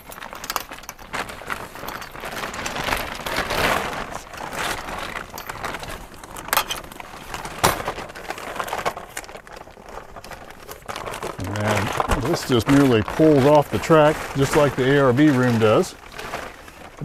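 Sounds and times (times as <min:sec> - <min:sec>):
plastic tarp rustling: 0:00.0 - 0:17.0.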